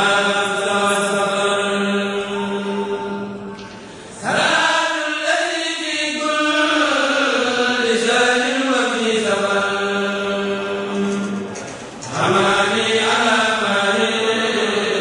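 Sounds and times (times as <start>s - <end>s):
chanting voices: 0.0s - 15.0s.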